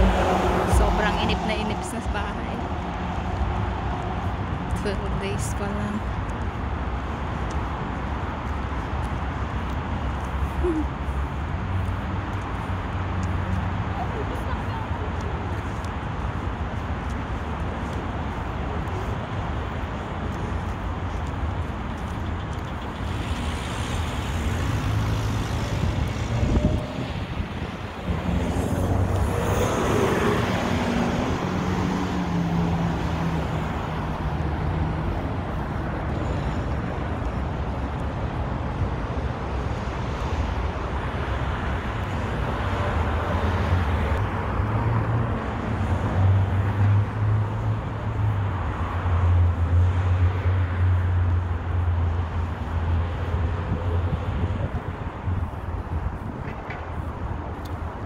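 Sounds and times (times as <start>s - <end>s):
road traffic rumble: 0.0s - 58.0s.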